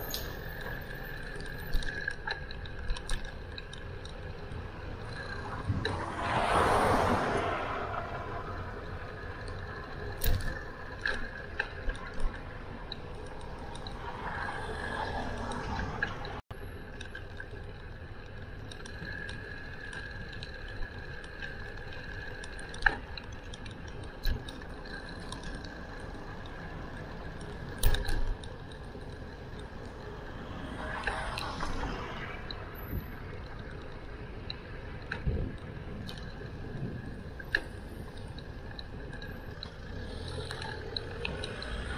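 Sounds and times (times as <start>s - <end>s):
tyres and wind hissing: 0.0s - 16.4s, 17.8s - 41.9s.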